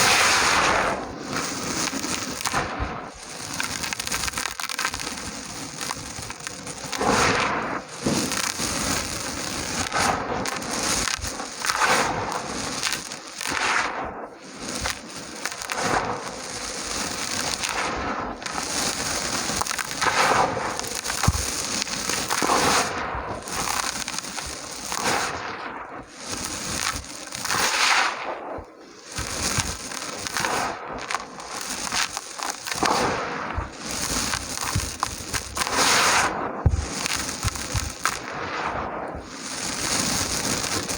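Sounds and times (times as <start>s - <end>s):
dry dirt crumbling and crunching: 1.2s - 10.0s, 16.3s - 40.9s.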